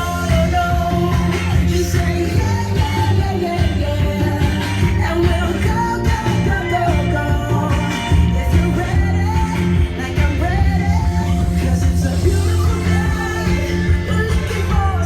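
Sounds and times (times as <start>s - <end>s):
pop-rock song with vocals: 0.0s - 15.0s.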